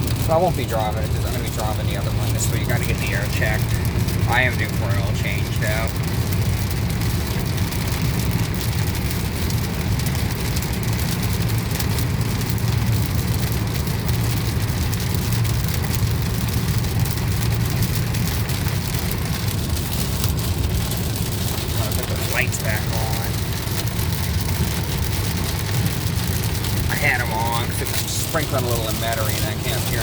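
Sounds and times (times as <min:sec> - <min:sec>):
car road and engine rumble: 0:00.0 - 0:30.0
heavy rain on car roof: 0:00.0 - 0:30.0.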